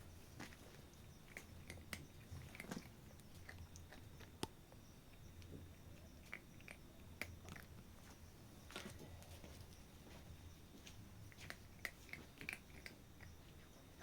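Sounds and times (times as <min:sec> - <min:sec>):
cat chewing and crunching: 0:00.2 - 0:14.0.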